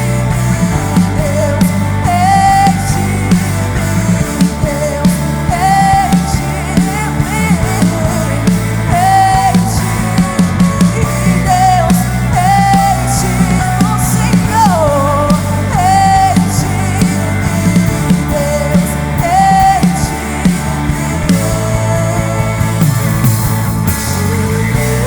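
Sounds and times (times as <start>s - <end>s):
live worship band music: 0.0s - 25.0s
steady bass: 0.0s - 25.0s.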